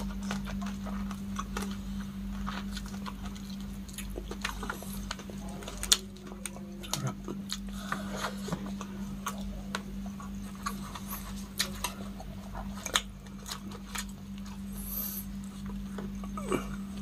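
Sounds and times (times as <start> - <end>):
person chewing with wet smacks: 0.0 - 17.0
steady low hum: 0.0 - 17.0.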